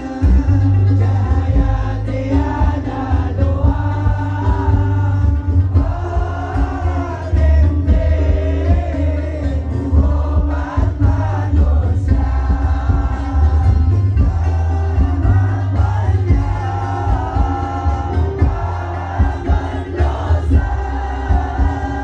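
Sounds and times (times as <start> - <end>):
amplified band with bass and drums: 0.0 - 22.0
man singing into a microphone: 0.0 - 22.0.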